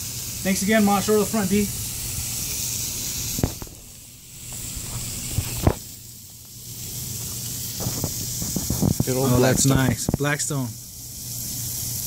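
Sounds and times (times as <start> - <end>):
burger patties sizzling on griddle: 0.0 - 12.0.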